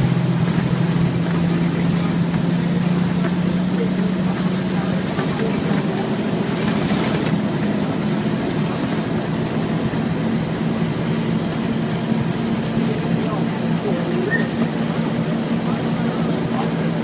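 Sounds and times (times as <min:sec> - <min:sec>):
bus diesel engine droning: 0:00.0 - 0:17.0
road noise: 0:00.0 - 0:17.0.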